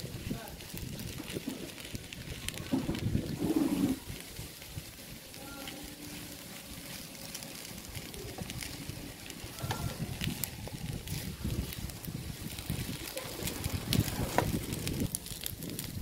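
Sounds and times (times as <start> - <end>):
rice sizzling in a wok: 0.0 - 16.0.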